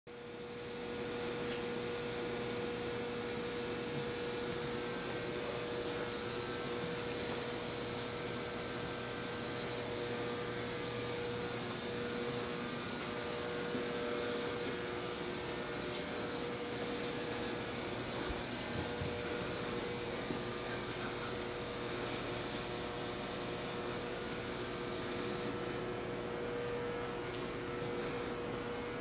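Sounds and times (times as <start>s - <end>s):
steady machine hum: 0.1s - 29.0s.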